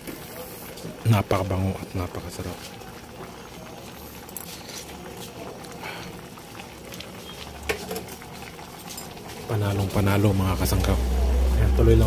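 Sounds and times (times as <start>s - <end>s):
broth bubbling with pops: 0.0s - 10.0s.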